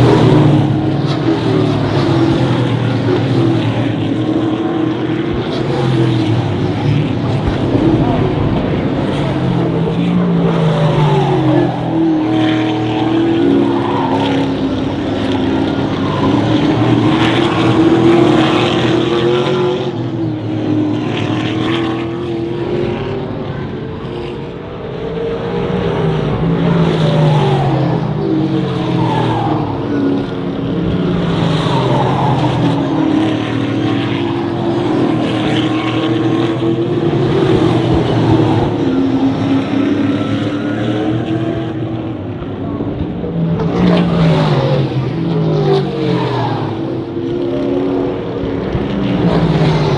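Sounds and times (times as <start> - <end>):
race car engines: 0.0 - 49.9.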